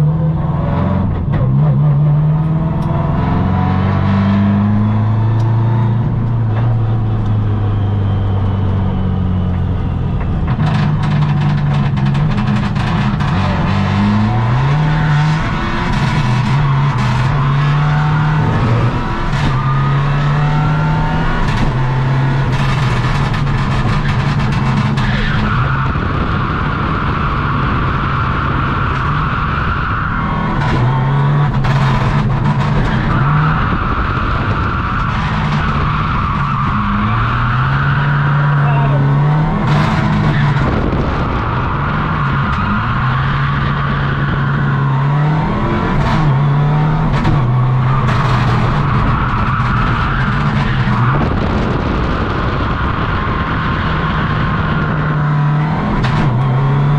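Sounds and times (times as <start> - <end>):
rally car engine revving: 0.0 - 56.9.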